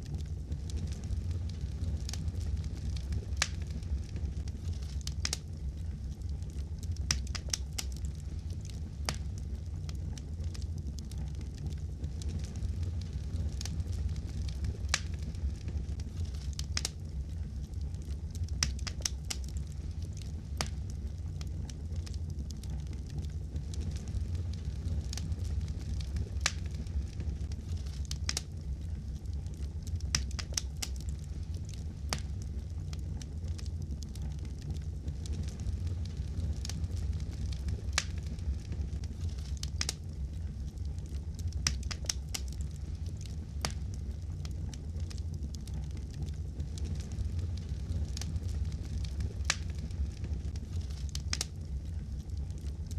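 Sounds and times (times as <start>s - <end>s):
fire crackling and popping: 0.0s - 52.9s
steady low rumble: 0.0s - 52.9s.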